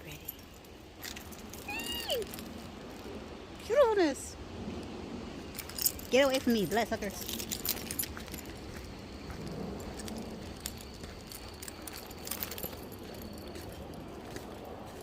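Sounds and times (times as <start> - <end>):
low rumble: 0.0 - 15.0
footsteps on a trail: 0.5 - 3.1, 5.5 - 15.0.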